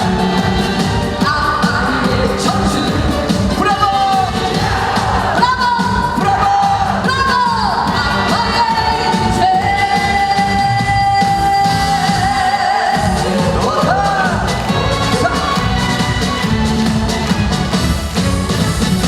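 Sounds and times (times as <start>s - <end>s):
person singing with band: 0.0s - 16.2s.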